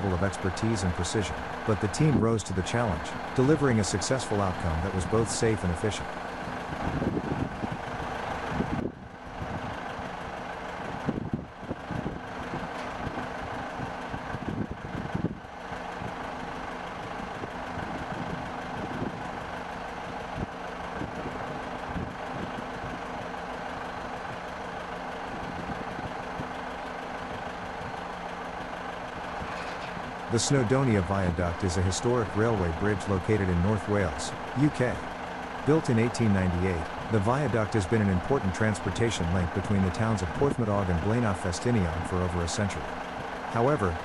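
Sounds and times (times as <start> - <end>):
steady engine drone: 0.0 - 44.0.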